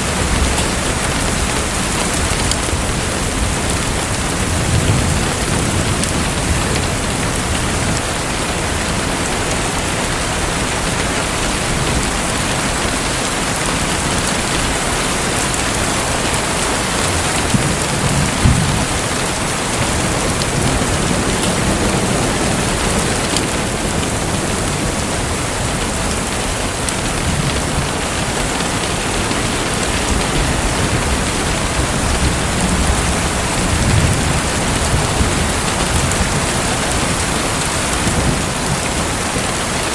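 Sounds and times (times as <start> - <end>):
rushing splashing water: 0.0 - 39.9.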